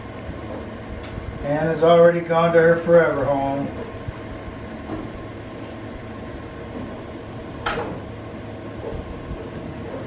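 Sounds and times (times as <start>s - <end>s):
fan humming: 0.0s - 10.0s.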